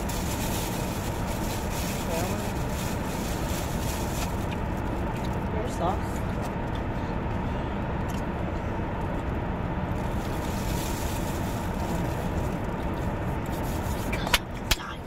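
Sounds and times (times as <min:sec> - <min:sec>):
car cabin hum and hiss: 0:00.0 - 0:15.0.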